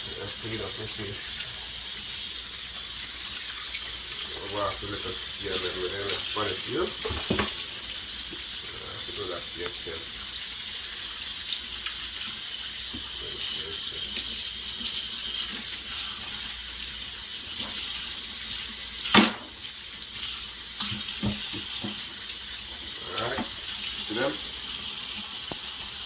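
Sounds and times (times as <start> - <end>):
water running from a tap: 0.0 - 26.0.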